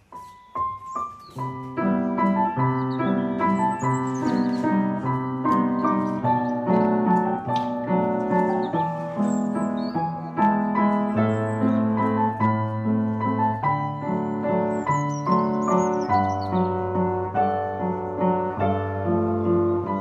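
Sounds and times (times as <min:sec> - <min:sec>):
slow piano instrumental: 0:00.0 - 0:20.0.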